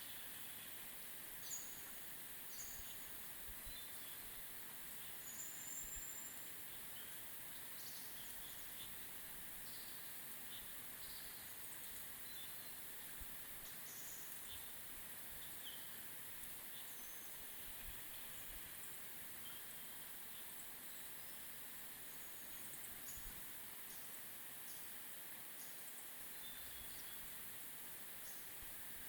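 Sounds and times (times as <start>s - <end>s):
steady soft hiss: 0.0s - 29.0s.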